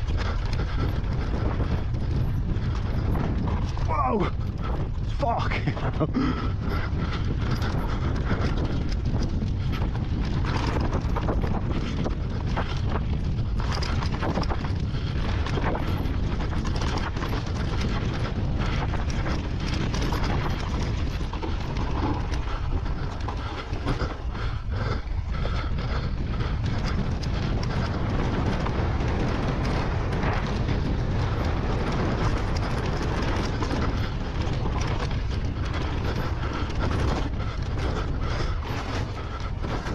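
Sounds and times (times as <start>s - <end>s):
bicycle clicks and rattles: 0.0s - 39.9s
wind rumbling on microphone: 0.0s - 39.9s.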